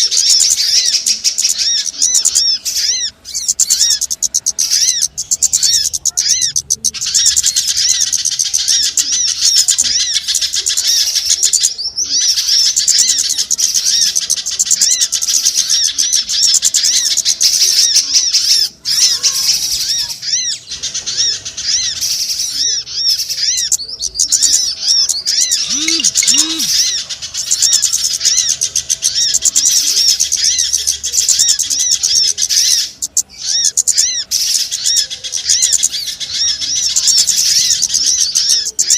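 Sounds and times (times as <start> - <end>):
many small birds twittering: 0.0 - 38.9
short lower bird calls: 0.0 - 38.9.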